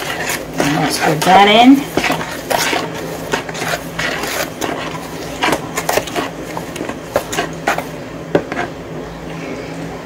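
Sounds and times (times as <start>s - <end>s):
utensil stirring batter in bowl: 0.0s - 8.8s.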